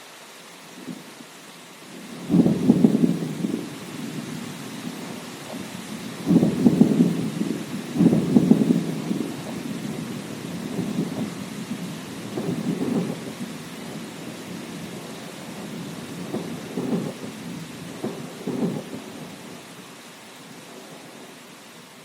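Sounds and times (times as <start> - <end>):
steady rain: 0.0 - 22.0
rolling thunder: 1.9 - 19.6.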